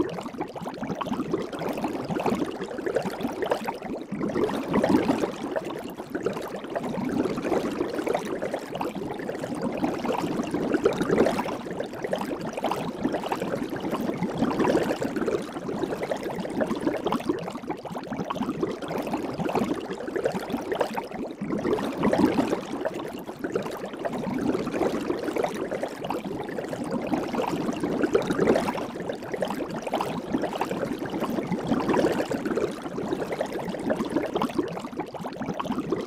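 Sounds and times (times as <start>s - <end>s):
soap bubbles fizzing and popping: 0.0s - 36.0s.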